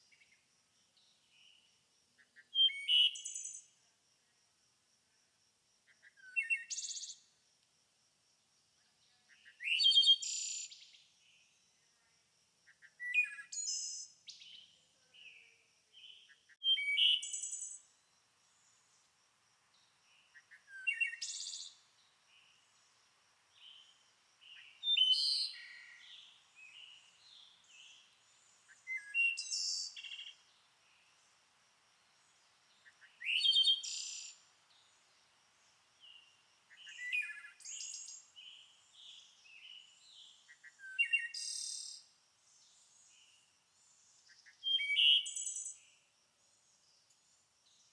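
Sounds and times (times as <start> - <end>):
bird song phrase: 0.0 - 3.8, 5.9 - 7.3, 8.8 - 18.9, 19.7 - 22.8, 23.5 - 31.2, 32.4 - 35.1, 36.0 - 46.0
faint bird chirps: 0.0 - 3.9, 5.8 - 7.4, 8.8 - 19.1, 19.7 - 31.4, 32.0 - 47.9.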